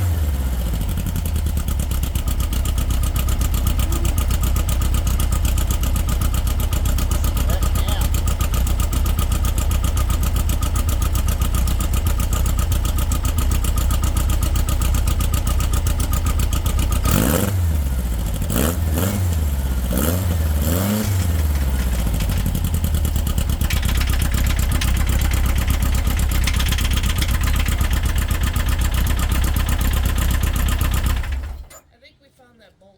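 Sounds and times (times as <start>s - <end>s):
car engine idling and revving: 0.0s - 31.8s.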